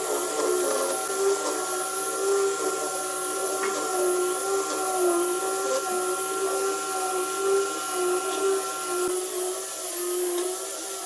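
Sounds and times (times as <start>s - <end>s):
power tool motor running: 0.0s - 11.0s.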